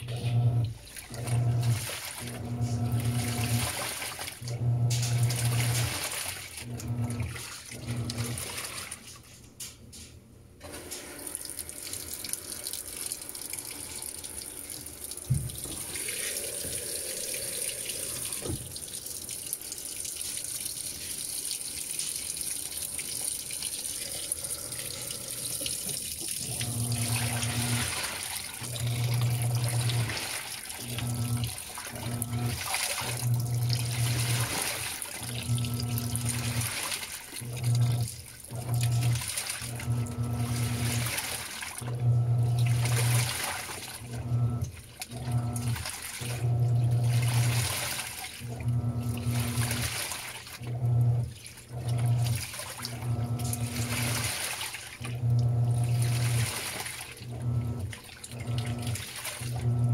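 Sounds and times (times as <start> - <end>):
water pouring into drum: 0.0 - 9.4, 10.6 - 59.9
washing machine motor agitating: 0.0 - 59.9
water and clothes sloshing: 0.0 - 59.9.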